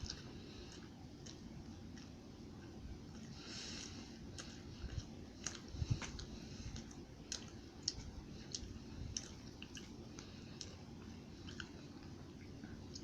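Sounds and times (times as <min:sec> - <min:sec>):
chewing crunchy donut: 0:00.0 - 0:13.0.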